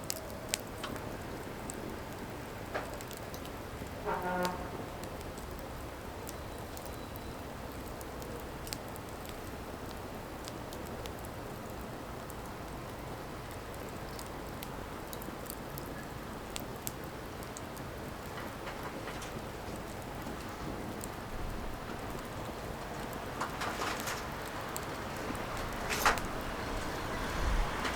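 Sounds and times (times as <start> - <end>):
fire crackles and pops: 0.0 - 27.9
firewood burning hiss: 0.0 - 27.9.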